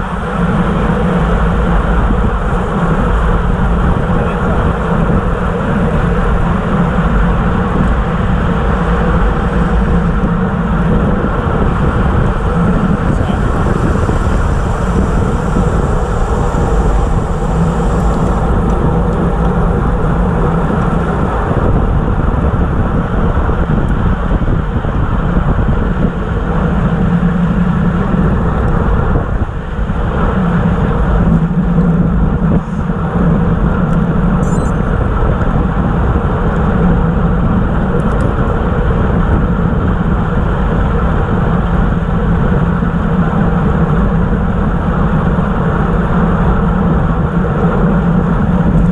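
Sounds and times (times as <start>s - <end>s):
bicycle road noise: 0.0s - 48.9s
wind rushing over microphone: 0.0s - 48.9s.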